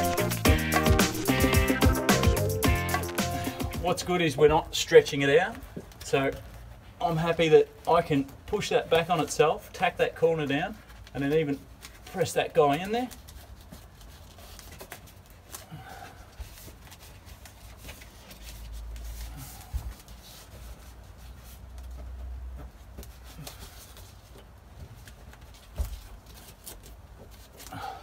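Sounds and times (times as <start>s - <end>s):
hands rustling foam liner: 0.0s - 28.0s.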